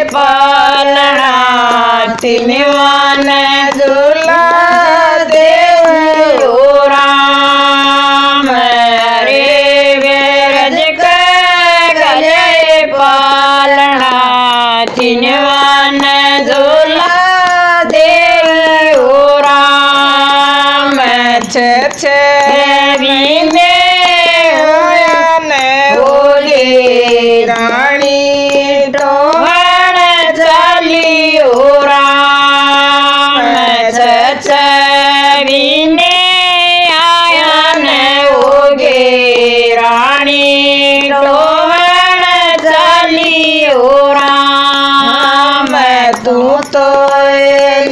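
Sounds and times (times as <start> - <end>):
women singing devotional song: 0.0 - 47.9.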